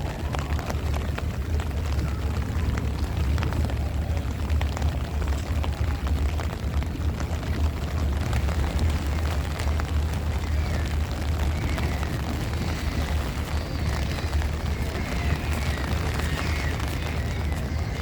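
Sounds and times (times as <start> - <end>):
rain: 0.0 - 18.0
raindrops ticking: 0.0 - 18.0
wind buffeting microphone: 0.0 - 18.0.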